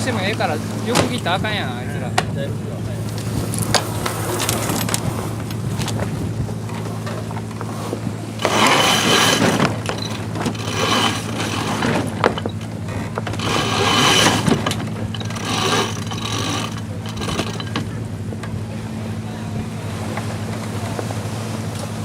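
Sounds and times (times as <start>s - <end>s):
boat engine droning: 0.0s - 22.0s
water splashing along hull: 0.0s - 22.0s.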